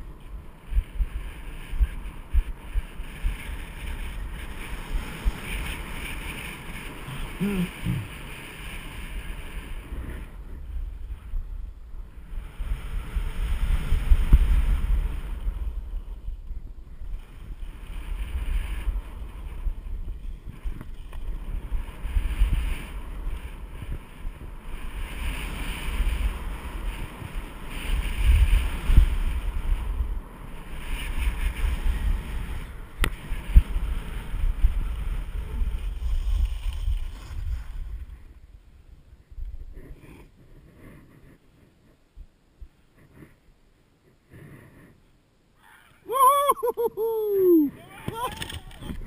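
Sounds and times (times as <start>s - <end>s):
wind buffeting microphone: 0.0s - 41.4s
skis carving on snow: 0.0s - 42.0s, 45.8s - 49.0s.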